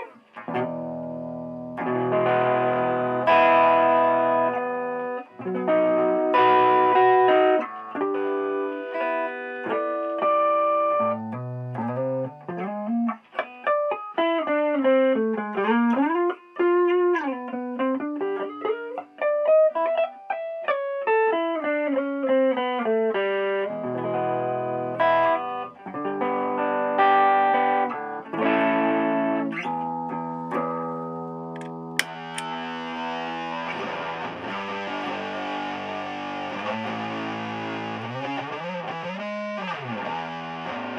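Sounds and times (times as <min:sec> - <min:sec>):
overdriven electric guitar: 0:00.0 - 0:40.9.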